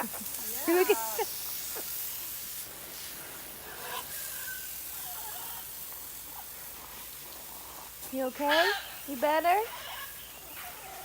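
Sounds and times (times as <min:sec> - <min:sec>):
water spraying from hose nozzle: 0:00.0 - 0:11.0.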